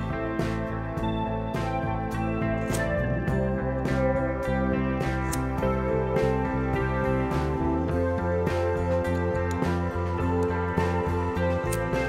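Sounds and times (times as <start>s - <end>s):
gentle guitar music with beat: 0.0s - 12.0s.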